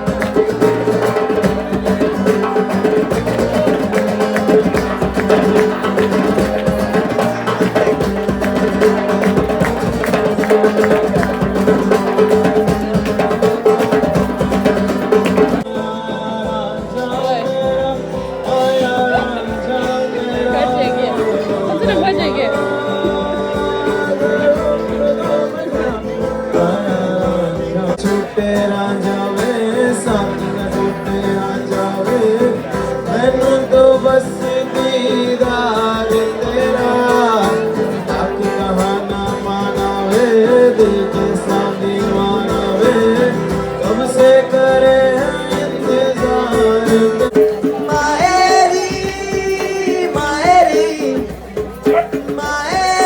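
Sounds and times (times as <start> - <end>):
acoustic guitar music: 0.0 - 53.0
person singing: 0.0 - 53.0.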